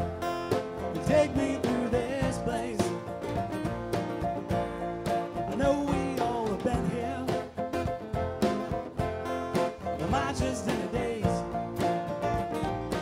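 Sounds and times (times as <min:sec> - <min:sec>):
instrumental live band music: 0:00.0 - 0:13.0.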